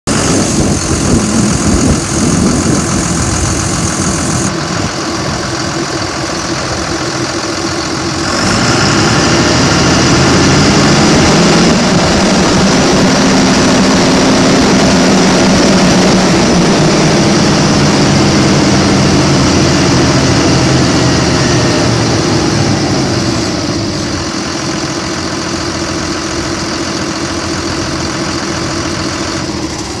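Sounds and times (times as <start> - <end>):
diesel engine idling and revving: 0.1 - 30.0.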